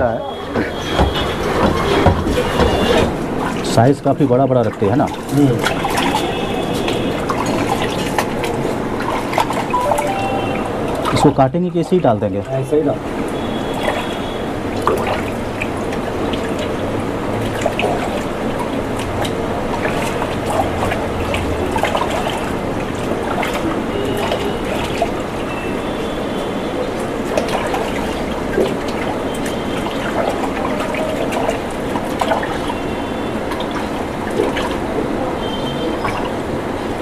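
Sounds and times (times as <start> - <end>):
hands sloshing meat in water: 0.6 - 10.2, 13.6 - 36.5.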